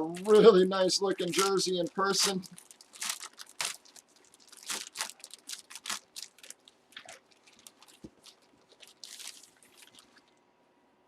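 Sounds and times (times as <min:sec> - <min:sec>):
plastic wrapping crinkling: 0:00.0 - 0:10.4.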